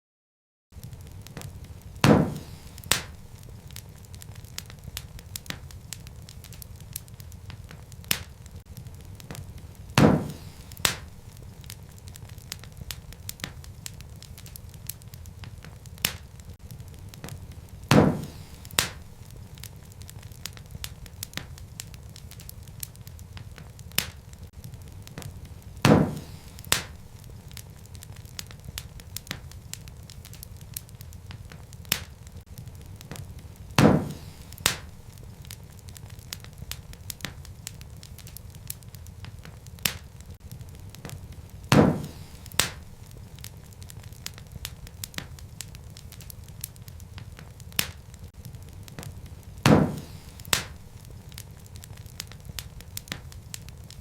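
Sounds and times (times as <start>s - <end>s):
wood fire crackling: 0.7s - 54.0s
loud fire pops: 0.8s - 54.0s.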